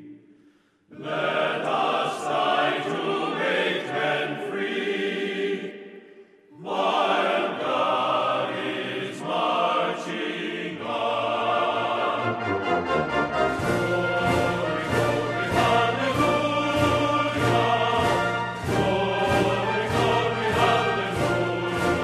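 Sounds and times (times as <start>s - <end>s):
choir singing: 0.9s - 22.0s.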